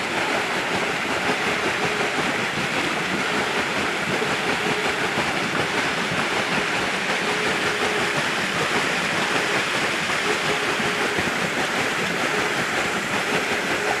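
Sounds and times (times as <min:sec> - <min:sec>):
water rushing onto water wheel: 0:00.0 - 0:14.0.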